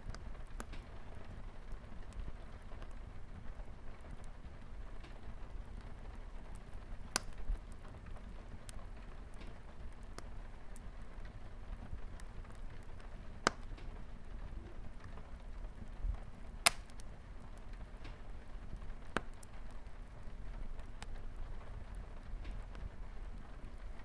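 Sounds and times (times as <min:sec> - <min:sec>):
rain pattering on window glass: 0:00.0 - 0:24.0
wood fire crackling: 0:00.0 - 0:24.0.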